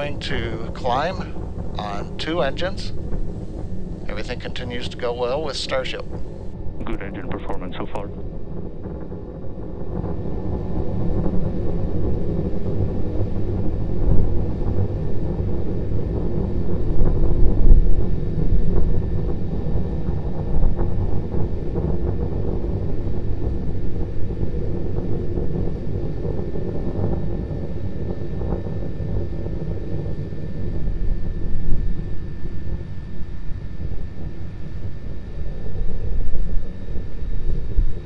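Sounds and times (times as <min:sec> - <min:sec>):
distant rocket engine rumble: 0:00.0 - 0:38.0.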